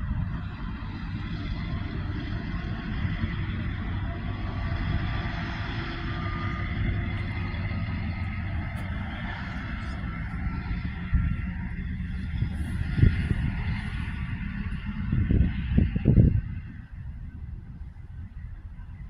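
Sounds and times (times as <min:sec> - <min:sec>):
diesel locomotive engine rumble: 0:00.0 - 0:19.0
faint steady whine: 0:00.0 - 0:19.0.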